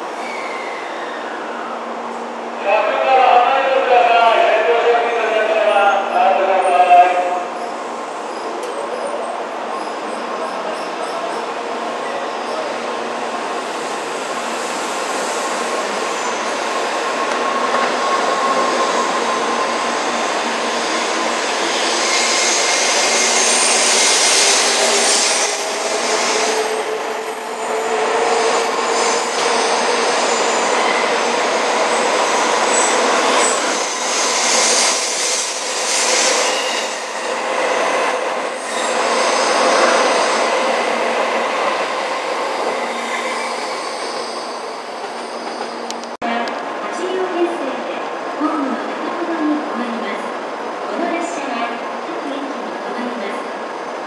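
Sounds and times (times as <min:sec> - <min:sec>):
train cars rushing and rumbling: 0:00.0 - 0:54.0.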